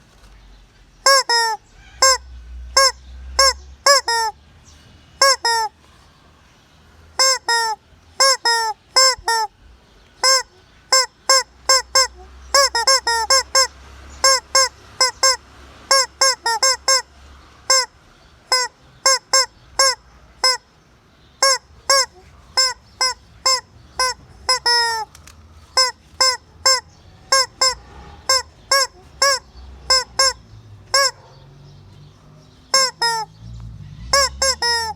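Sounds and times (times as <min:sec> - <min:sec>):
hen honking calls: 0:01.0 - 0:04.4, 0:05.2 - 0:05.9, 0:07.1 - 0:09.6, 0:10.2 - 0:34.9.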